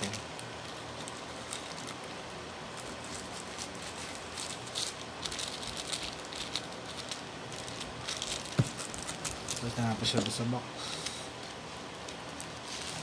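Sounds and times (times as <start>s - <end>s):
packaging rustling and crinkling: 0.0s - 13.0s
steady background hiss: 0.0s - 13.0s.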